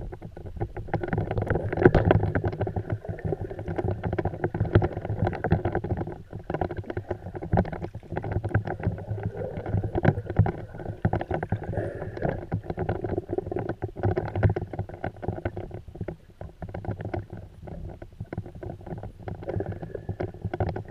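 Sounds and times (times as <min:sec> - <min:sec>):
underwater clicking and crackling: 0:00.0 - 0:20.9
underwater rumble of moving water: 0:00.0 - 0:20.9.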